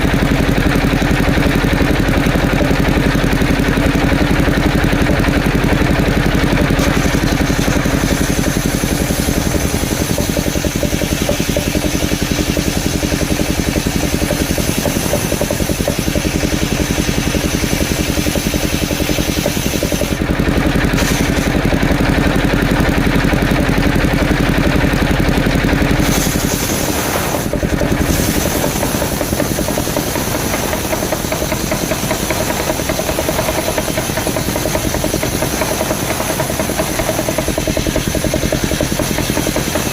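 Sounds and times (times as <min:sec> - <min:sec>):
wood saw engine running: 0:00.0 - 0:39.9.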